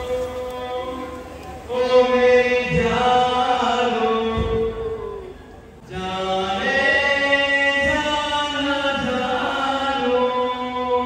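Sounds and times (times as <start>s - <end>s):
man singing into microphone: 0.0s - 11.0s.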